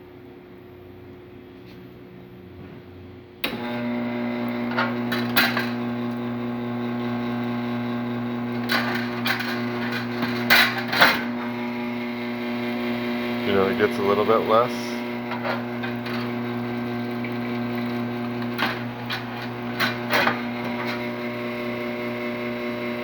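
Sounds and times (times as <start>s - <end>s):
espresso machine pump humming: 3.5s - 23.0s.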